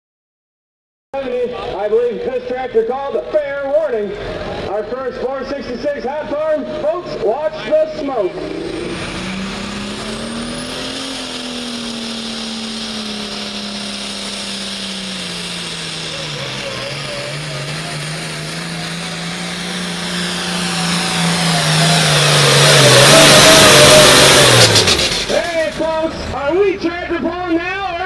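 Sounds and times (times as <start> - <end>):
diesel tractor engine at full throttle: 1.2 - 28.0.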